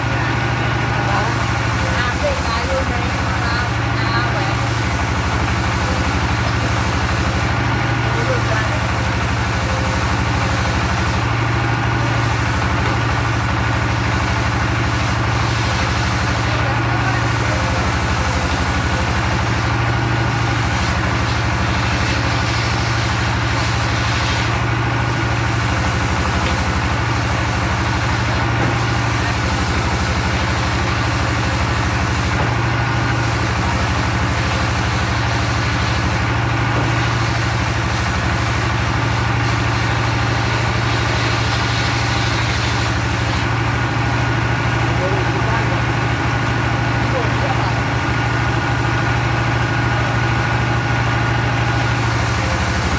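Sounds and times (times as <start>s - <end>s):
circular saw running: 0.0s - 52.9s.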